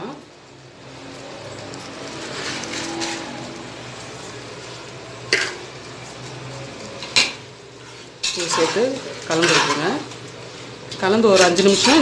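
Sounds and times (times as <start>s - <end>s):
food sizzling in pot: 0.0s - 12.0s.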